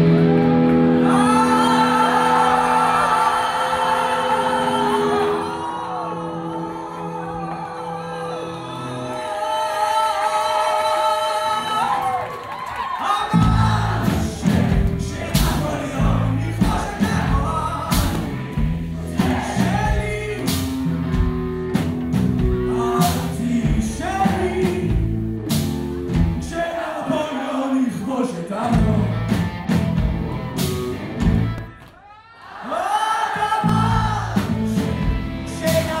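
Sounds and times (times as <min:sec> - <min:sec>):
live rock band with vocals: 0:00.0 - 0:31.8, 0:32.5 - 0:36.0.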